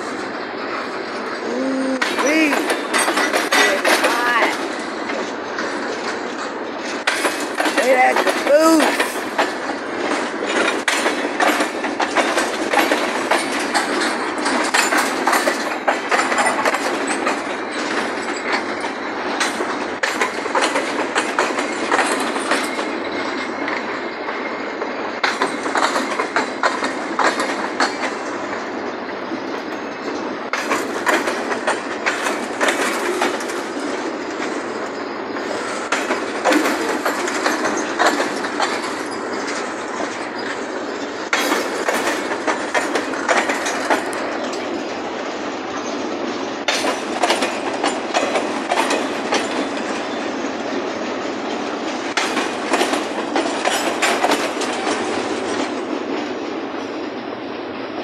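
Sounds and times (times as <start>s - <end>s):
freight train wheels clicking on rails: 0.0s - 58.0s.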